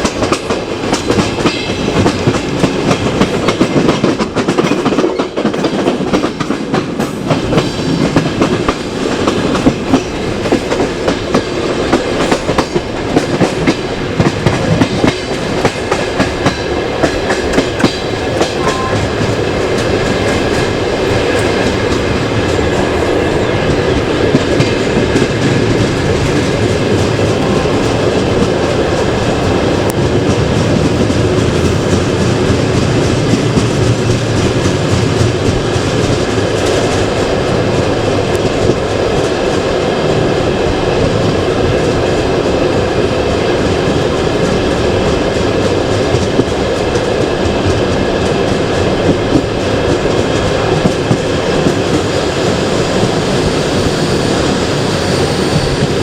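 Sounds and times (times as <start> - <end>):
train wheels clattering over joints: 0.0 - 56.0.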